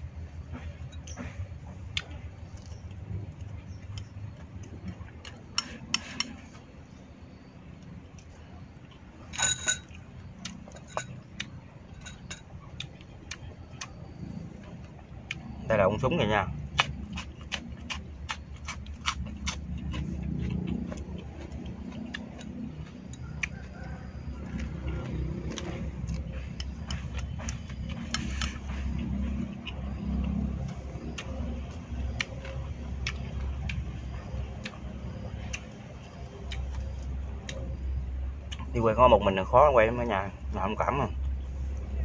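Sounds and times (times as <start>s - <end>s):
man chewing: 0.0s - 15.7s, 16.4s - 38.8s
steady low rumble: 0.0s - 42.0s.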